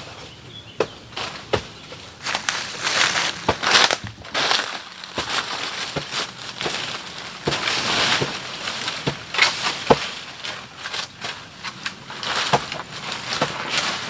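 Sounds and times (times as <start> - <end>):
dry leaves crunching and rustling: 1.2 - 14.0
plant stems snapping: 2.2 - 14.0.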